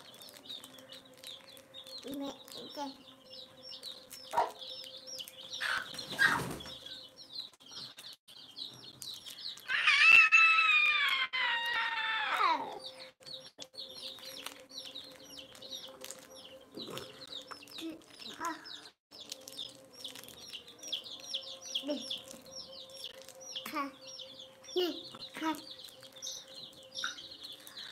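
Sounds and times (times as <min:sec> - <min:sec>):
chicks peeping: 0:00.0 - 0:27.9.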